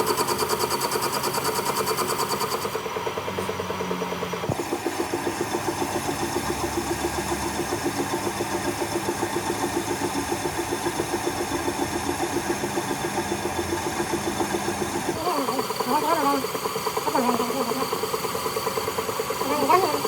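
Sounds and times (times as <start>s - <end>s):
workshop machinery pulsing: 0.0s - 20.0s.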